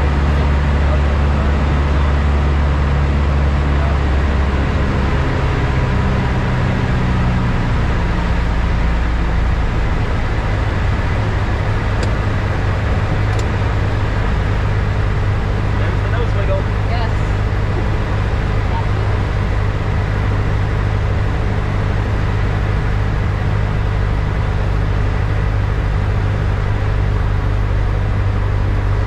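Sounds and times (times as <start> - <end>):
aircraft engine and propeller droning: 0.0 - 29.0.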